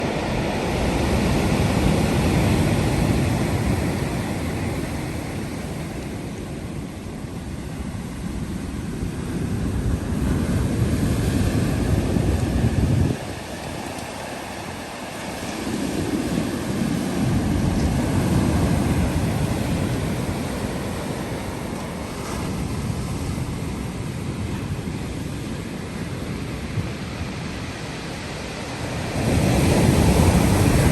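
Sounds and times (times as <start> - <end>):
ocean wave washing in: 0.0 - 30.9.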